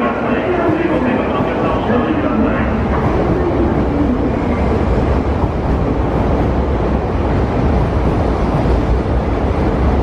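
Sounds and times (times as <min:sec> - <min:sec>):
train rushing past: 0:00.0 - 0:10.0.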